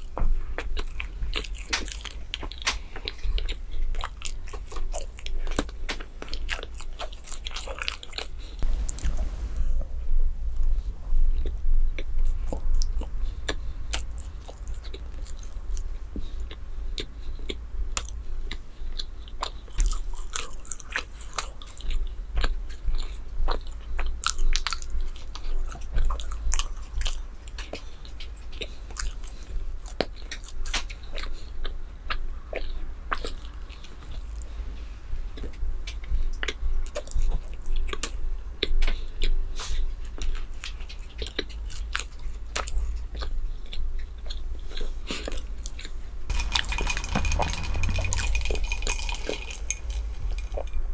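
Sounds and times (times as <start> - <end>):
person chewing dessert: 0.0 - 9.2, 10.6 - 34.7, 35.3 - 50.9.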